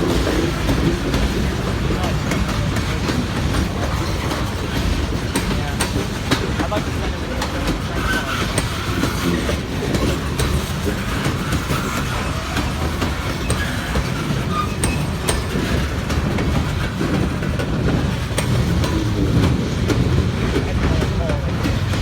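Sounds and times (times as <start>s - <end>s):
freight train rumbling past: 0.0s - 22.0s
wheels clicking over rail joints: 0.0s - 22.0s.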